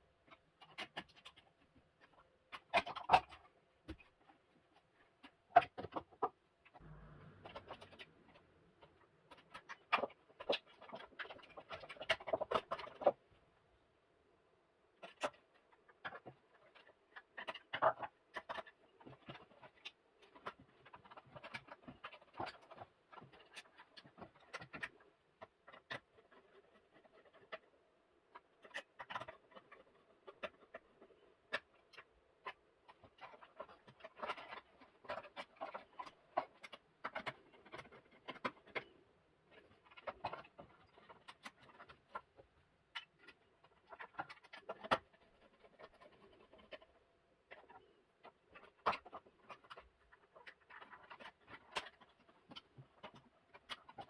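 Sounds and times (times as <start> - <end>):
wires clicking and scraping: 0.1 - 13.8, 14.7 - 54.0.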